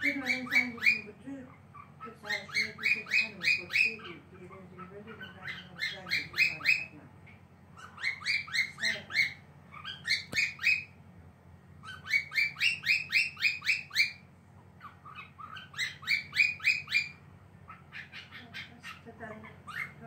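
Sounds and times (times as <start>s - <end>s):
cockatiel chirping: 0.0s - 7.0s, 7.8s - 11.0s, 11.8s - 20.0s.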